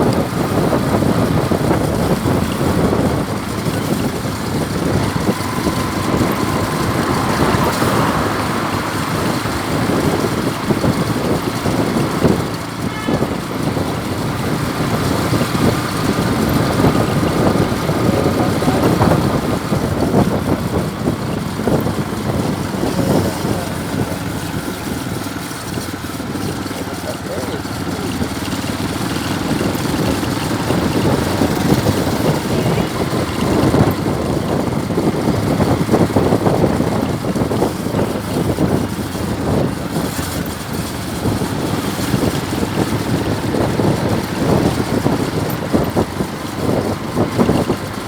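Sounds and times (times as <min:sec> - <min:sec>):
road noise: 0:00.0 - 0:48.0
vehicle engines running: 0:00.0 - 0:48.0.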